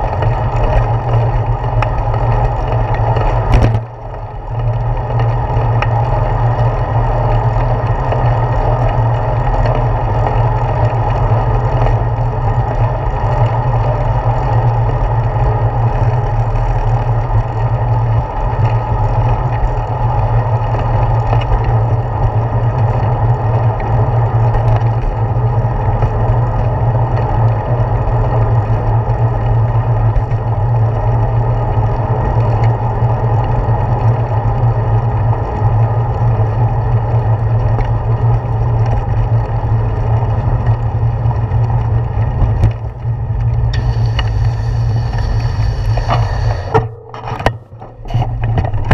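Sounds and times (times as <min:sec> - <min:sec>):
bicycle road vibration: 0:00.0 - 0:48.9
wind rumble: 0:00.0 - 0:48.9.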